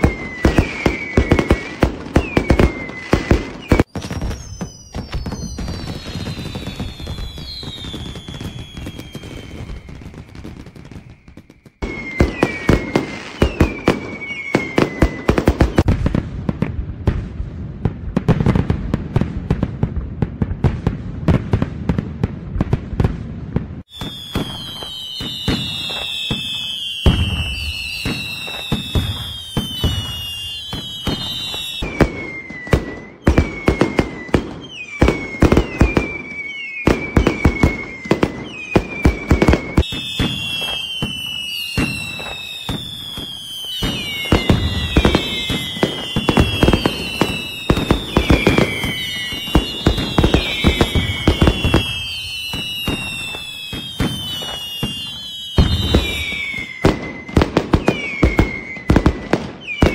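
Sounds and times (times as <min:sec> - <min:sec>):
falling firework whistles: 0:00.0 - 0:16.7, 0:23.8 - 0:59.9
firework bangs and crackles: 0:00.0 - 0:59.9.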